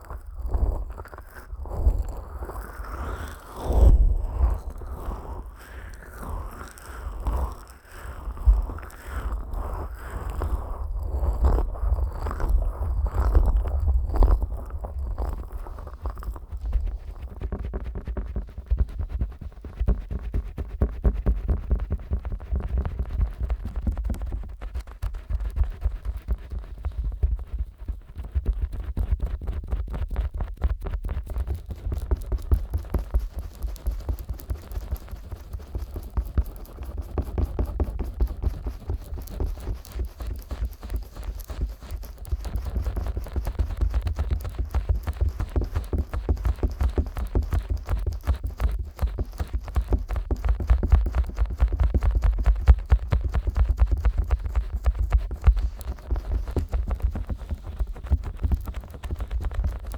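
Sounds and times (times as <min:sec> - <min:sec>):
fingers rubbing microphone: 0:00.0 - 0:59.9.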